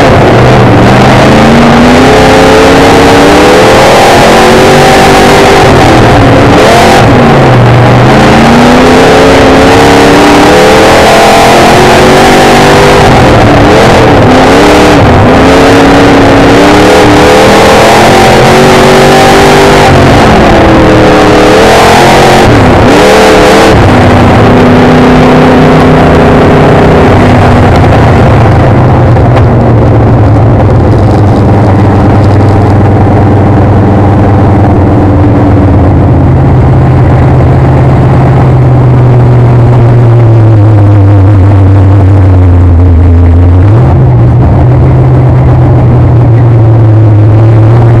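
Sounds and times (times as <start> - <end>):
race car engine running: 0.0 - 48.0.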